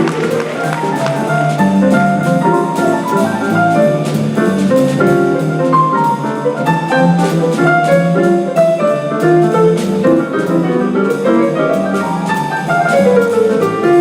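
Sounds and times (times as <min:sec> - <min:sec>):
drum kit with cymbal strokes: 0:00.0 - 0:14.0
piano: 0:00.0 - 0:14.0.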